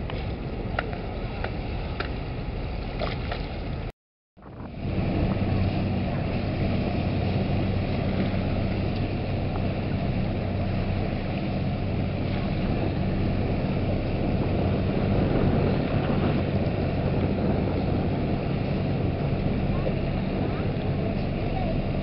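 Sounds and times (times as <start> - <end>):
motorboat engines droning: 0.0 - 22.0
wind on microphone: 0.0 - 22.0.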